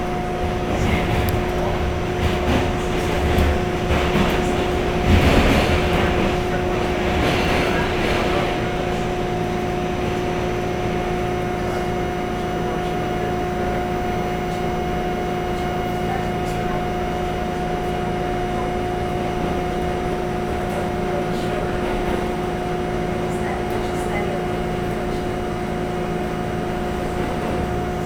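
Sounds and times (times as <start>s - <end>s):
subway car air-conditioning hum: 0.0s - 28.0s.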